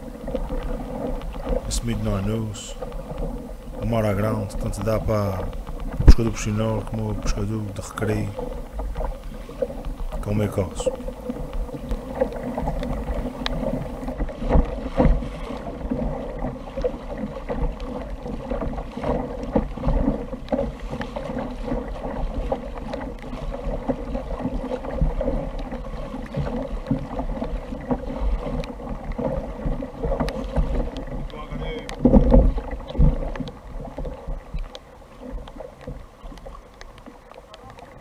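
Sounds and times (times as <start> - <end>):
wind buffeting microphone: 0.0 - 37.0
water slapping against kayak hull: 0.0 - 38.0.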